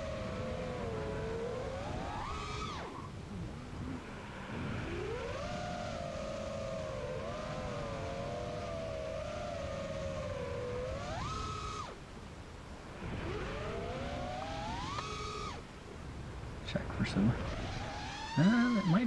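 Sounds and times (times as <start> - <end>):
drone motors whining: 0.0 - 12.1, 12.7 - 15.8, 16.7 - 19.0.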